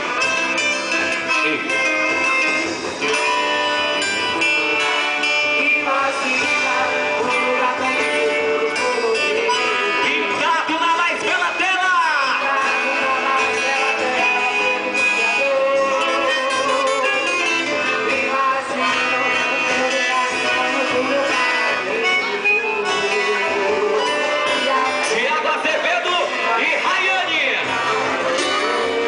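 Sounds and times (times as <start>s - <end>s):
plucked string music: 0.0s - 11.5s, 12.2s - 27.0s.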